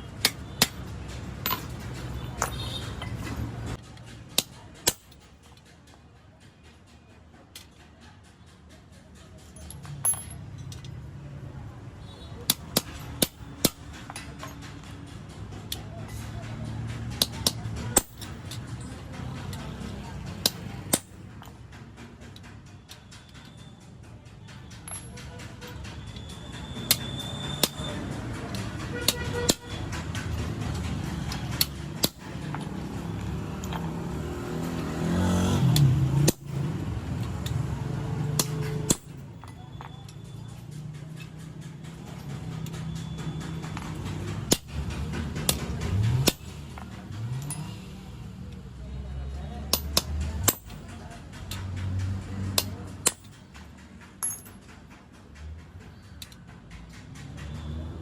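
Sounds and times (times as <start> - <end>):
metal taps and clinks: 0.2 - 6.0, 9.4 - 11.1, 12.4 - 23.7, 24.4 - 35.0, 35.6 - 47.7, 49.5 - 55.3
vehicle engine running: 11.5 - 58.0.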